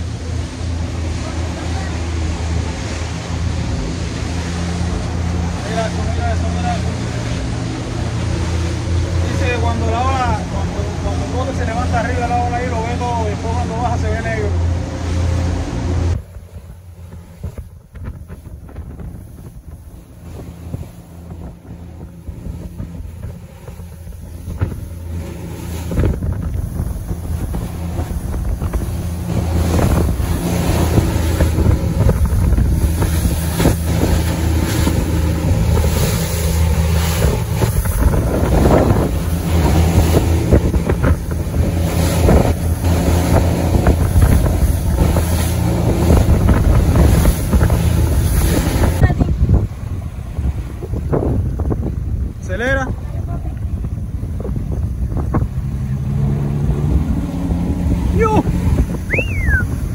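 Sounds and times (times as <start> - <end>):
outboard engines running: 0.0 - 59.9
water rushing past hull: 0.0 - 59.9
wind buffeting microphone: 0.0 - 59.9.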